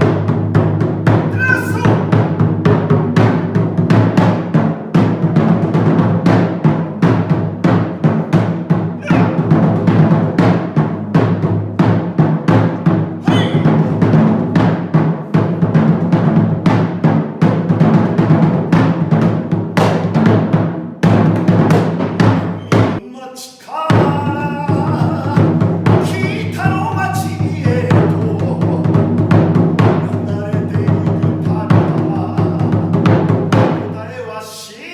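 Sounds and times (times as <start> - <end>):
taiko drums playing fast: 0.0 - 23.0, 23.9 - 34.0.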